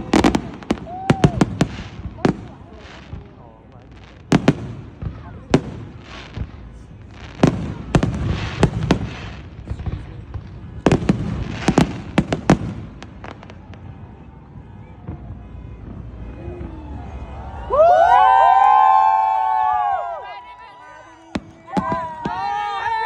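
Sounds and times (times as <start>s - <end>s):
fireworks banging: 0.0s - 23.0s
fireworks crackling: 0.0s - 23.0s.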